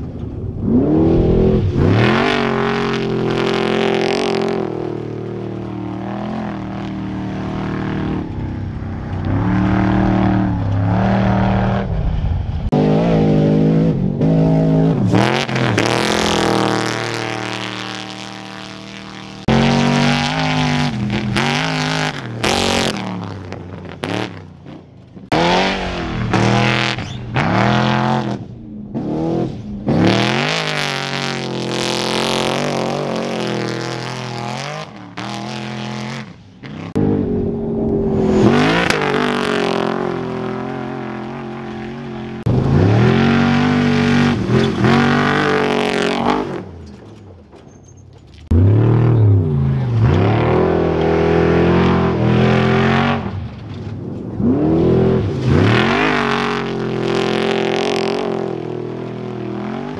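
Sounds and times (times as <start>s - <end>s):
race truck engines revving past: 0.0s - 47.2s, 48.4s - 59.9s.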